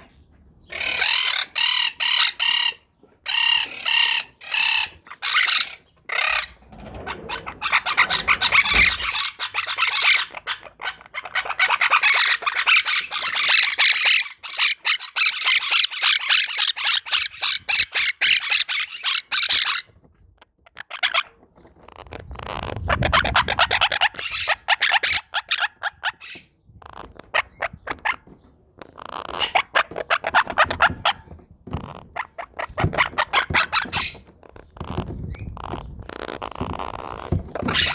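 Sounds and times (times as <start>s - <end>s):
parakeets chattering and squawking: 0.0s - 37.9s.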